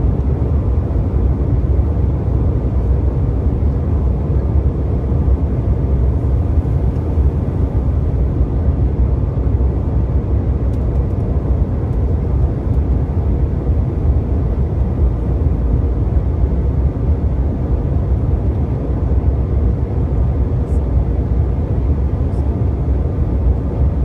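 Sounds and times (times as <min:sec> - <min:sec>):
airliner cabin engine rush: 0:00.0 - 0:24.0.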